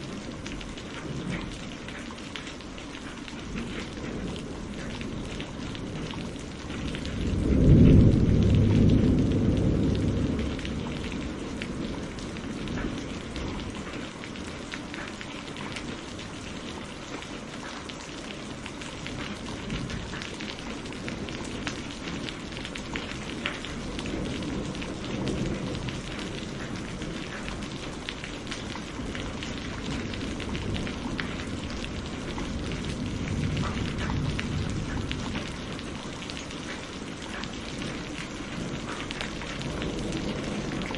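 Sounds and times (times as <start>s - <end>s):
rain beating on a window: 0.0s - 40.9s
thunder rumbling: 3.4s - 14.7s, 18.3s - 40.9s.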